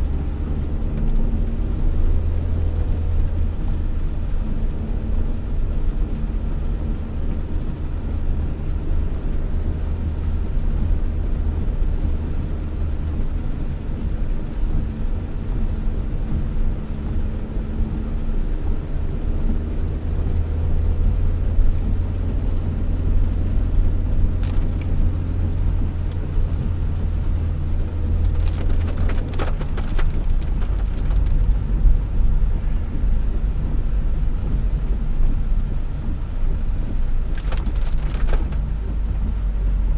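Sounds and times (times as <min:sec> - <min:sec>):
car engine and tyre drone: 0:00.0 - 0:39.9.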